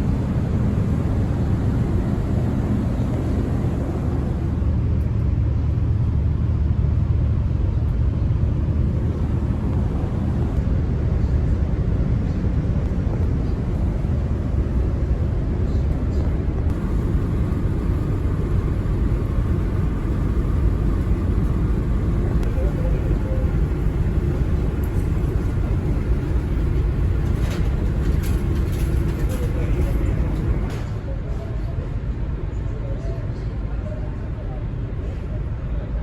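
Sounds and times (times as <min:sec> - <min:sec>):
vehicle rumbling: 0:00.0 - 0:32.8.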